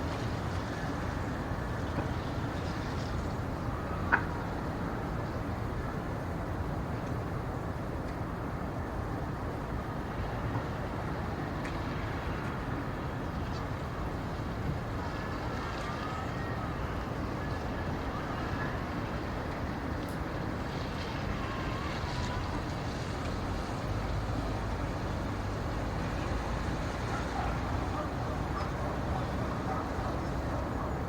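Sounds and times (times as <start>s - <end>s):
low rumbling background noise: 0.0s - 31.0s.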